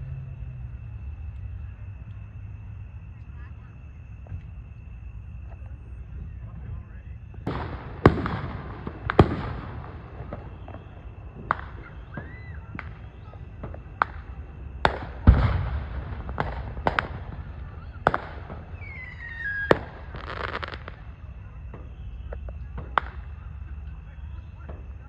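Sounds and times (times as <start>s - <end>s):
fireworks bangs with crackling: 3.2s - 25.0s.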